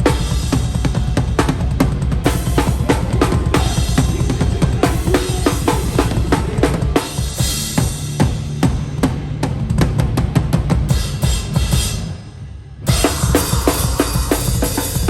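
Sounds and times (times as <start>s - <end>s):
live hardcore band playing: 0.0s - 15.0s.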